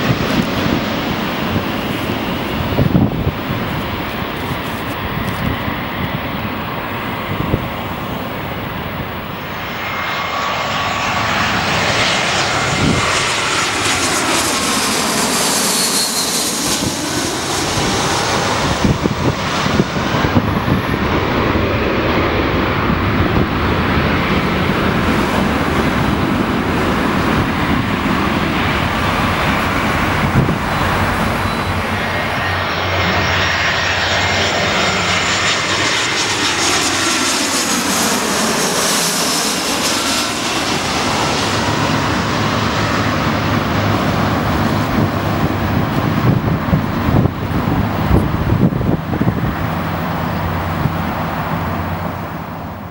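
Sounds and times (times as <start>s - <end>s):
jet engines roaring: 0.0s - 52.9s
jet whine gliding down: 0.0s - 52.9s.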